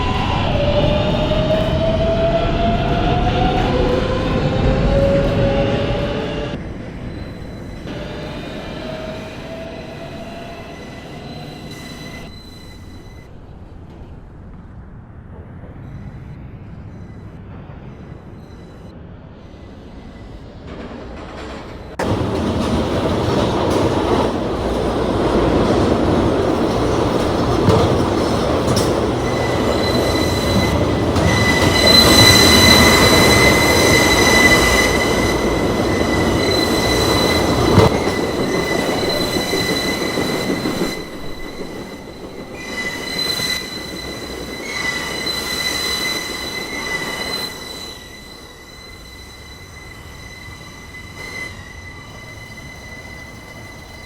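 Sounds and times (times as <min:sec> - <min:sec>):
train wheels squealing on rails: 0:00.0 - 0:14.2, 0:15.4 - 0:54.0
train running gear rumbling: 0:00.0 - 0:54.0.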